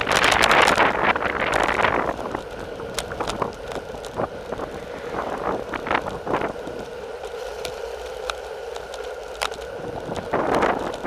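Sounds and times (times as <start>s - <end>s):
bike clicks and rattles: 0.0s - 11.0s
wind and tyre noise: 0.0s - 11.0s.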